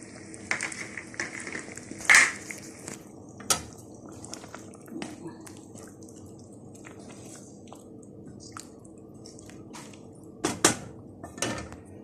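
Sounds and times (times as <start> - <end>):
sauce bubbling in a pan: 0.0 - 11.3.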